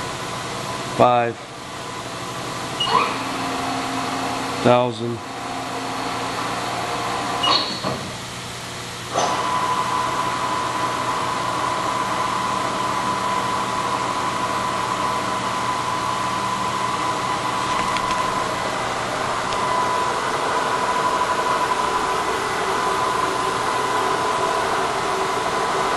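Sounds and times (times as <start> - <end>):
machine spindle high whine: 0.0 - 8.0, 9.0 - 25.9
machine background hum: 0.0 - 25.9.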